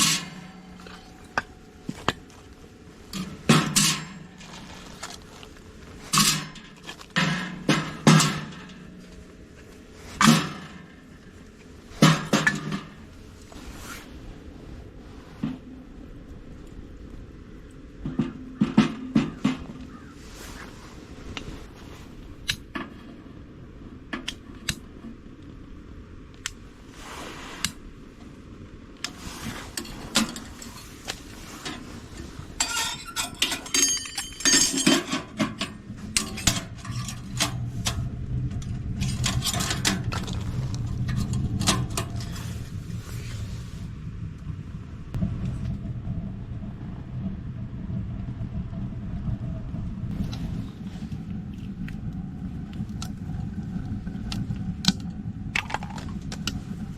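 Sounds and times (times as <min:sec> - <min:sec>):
steady low rumble: 0:00.0 - 0:56.9.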